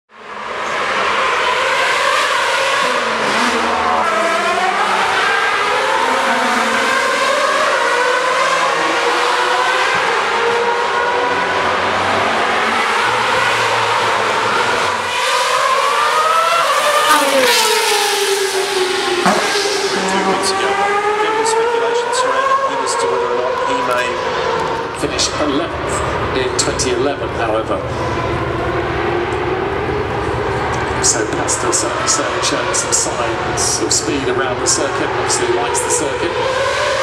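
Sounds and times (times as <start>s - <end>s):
racing car engines at high revs: 0.1s - 37.0s.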